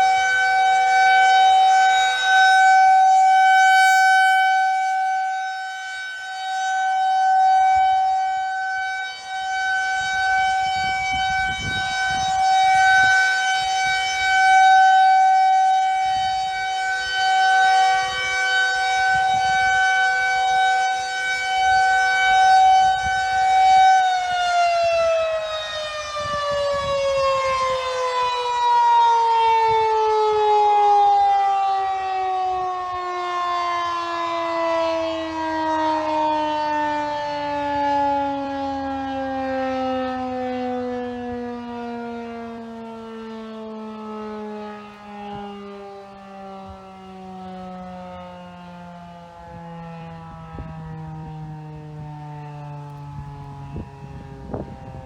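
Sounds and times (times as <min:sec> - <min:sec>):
rotating siren winding down: 0:00.0 - 0:55.0.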